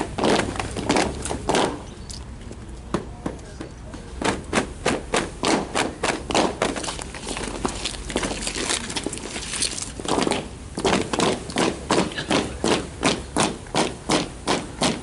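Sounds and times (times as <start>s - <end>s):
shoes stamping on asphalt: 0.0s - 1.9s, 2.9s - 15.0s.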